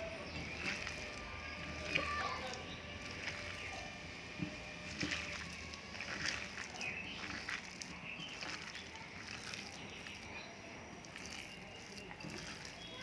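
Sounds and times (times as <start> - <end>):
hand squishing wet batter: 0.0 - 13.0.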